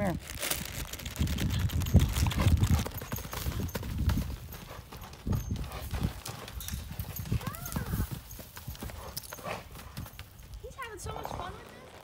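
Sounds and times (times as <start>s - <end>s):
hoofbeats on soft turf: 1.4s - 12.0s.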